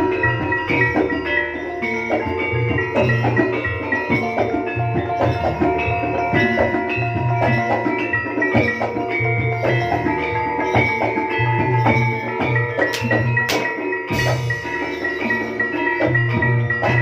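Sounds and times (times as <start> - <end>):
rhythmic drum strokes: 0.0 - 17.0
ringing gong-chime and metallophone: 0.0 - 17.0.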